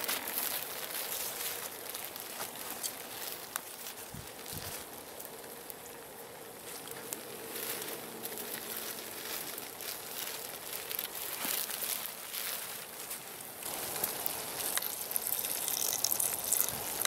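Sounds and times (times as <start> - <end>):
campfire logs crackling: 0.0 - 17.0
mushrooms sizzling in a pot: 0.0 - 17.0.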